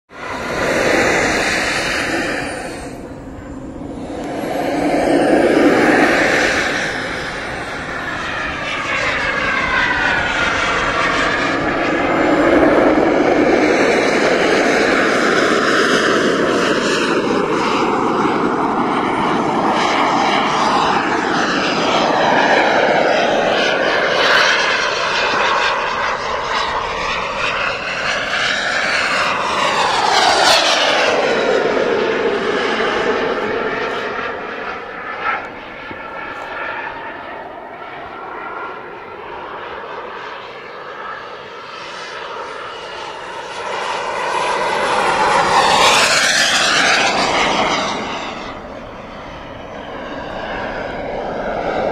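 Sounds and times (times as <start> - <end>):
model jet turbine whine: 0.1 - 51.9.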